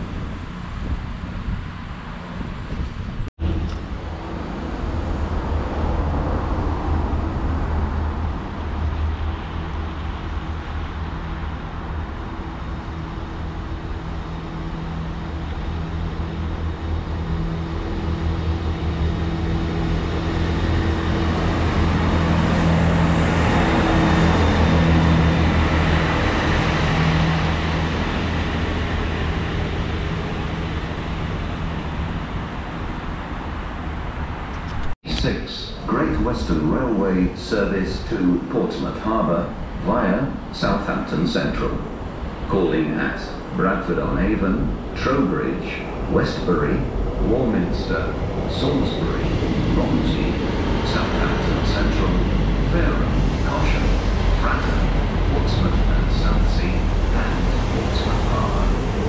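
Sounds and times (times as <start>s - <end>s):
train diesel engines droning: 0.0s - 59.0s.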